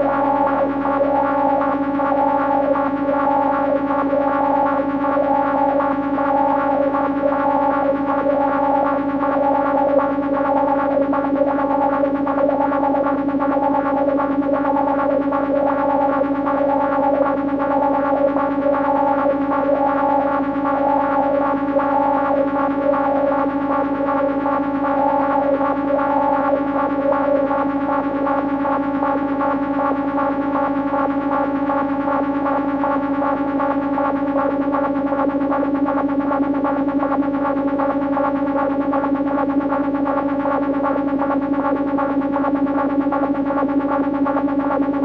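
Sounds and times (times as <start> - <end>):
distorted electronic drone: 0.0 - 45.0.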